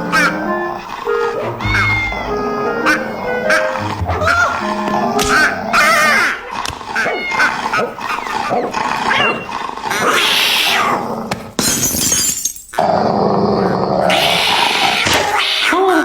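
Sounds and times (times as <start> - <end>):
animal growling and crying out: 0.0 - 11.3, 12.8 - 16.0.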